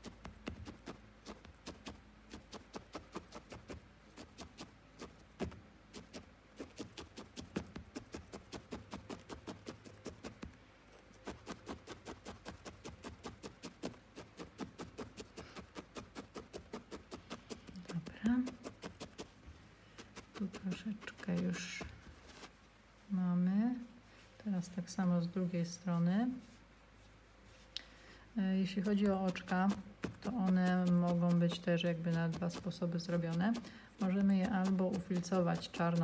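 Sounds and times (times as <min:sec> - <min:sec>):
felting needle stabbing wool: 0:00.0 - 0:22.6, 0:28.5 - 0:36.0.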